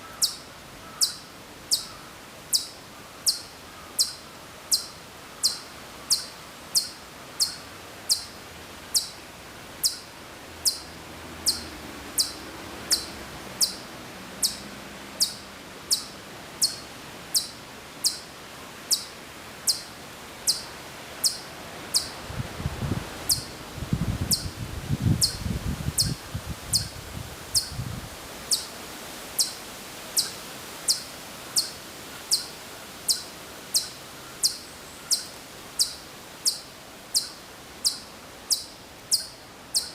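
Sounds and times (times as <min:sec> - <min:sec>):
chipmunk chirping: 0:00.1 - 0:09.2, 0:09.8 - 0:18.3, 0:18.9 - 0:22.2, 0:23.3 - 0:23.5, 0:24.3 - 0:24.6, 0:25.2 - 0:25.4, 0:26.0 - 0:27.0, 0:27.6 - 0:27.8, 0:28.5 - 0:28.7, 0:29.4 - 0:29.6, 0:30.2 - 0:32.5, 0:33.1 - 0:39.9.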